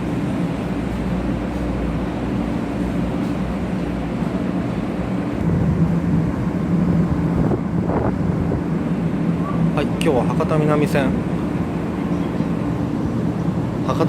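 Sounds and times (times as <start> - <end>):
high-speed train hum and rush: 0.0 - 14.0.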